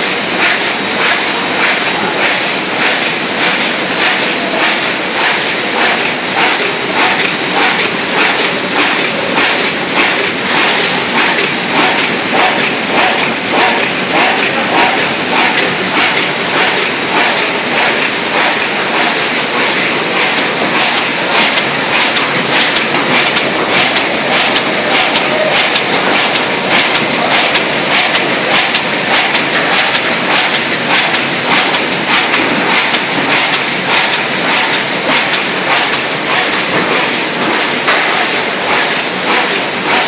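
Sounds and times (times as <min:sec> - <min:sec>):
die-cutting machine clattering: 0:00.0 - 0:40.0.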